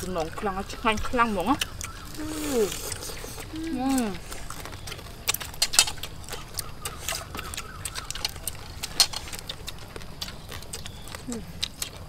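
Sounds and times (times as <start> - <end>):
low background hum: 0.0 - 12.0
people chewing and lip smacking: 0.0 - 12.0.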